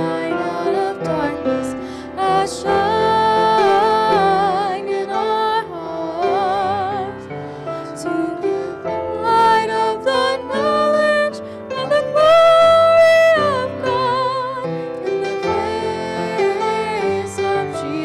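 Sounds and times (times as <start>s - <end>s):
woman and man singing: 0.0s - 14.5s, 15.3s - 18.0s.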